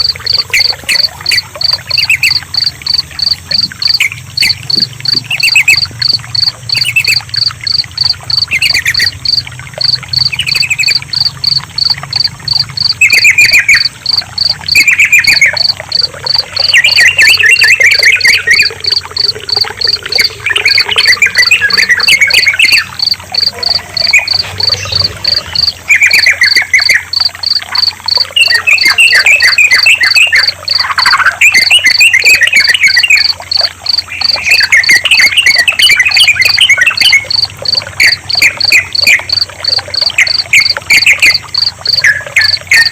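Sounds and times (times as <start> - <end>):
bird singing rapid notes: 0.0 - 42.9
crickets chirping: 0.0 - 42.9.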